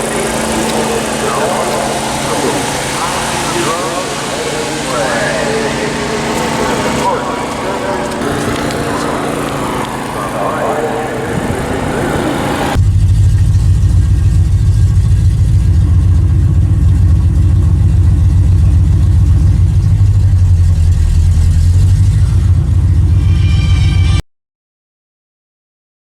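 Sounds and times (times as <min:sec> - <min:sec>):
car engine droning: 0:00.0 - 0:24.2.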